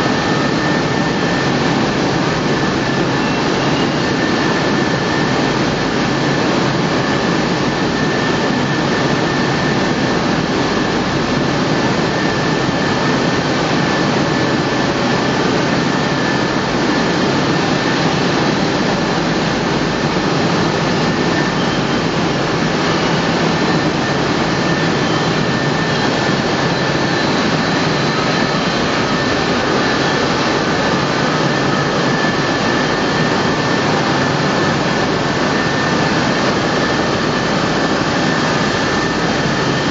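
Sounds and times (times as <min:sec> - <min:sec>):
thin high machine whine: 0:00.0 - 0:39.9.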